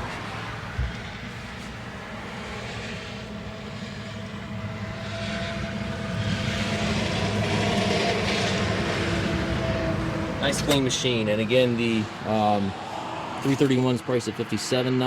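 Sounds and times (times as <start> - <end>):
diesel engine running: 0.0 - 14.2.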